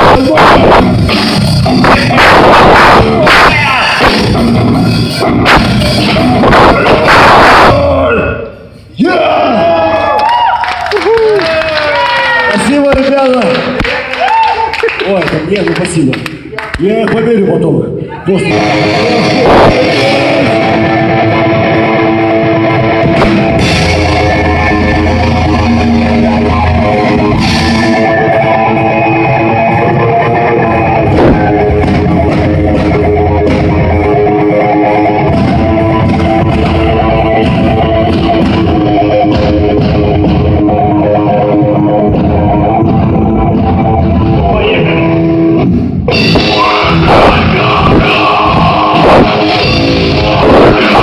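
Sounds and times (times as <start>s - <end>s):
metal band playing live: 0.0s - 8.3s, 18.4s - 51.0s.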